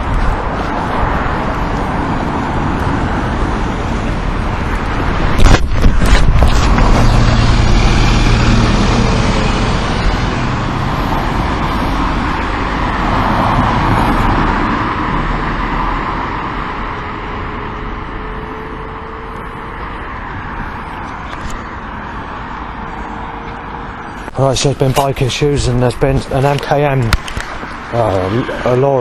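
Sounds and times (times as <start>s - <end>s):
motor vehicles passing close by: 0.0s - 29.0s.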